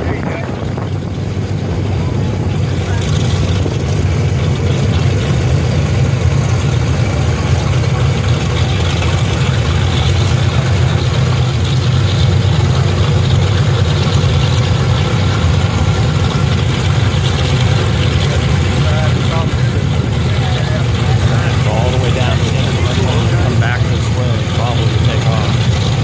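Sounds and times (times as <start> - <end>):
aircraft piston engines droning: 0.0 - 26.0.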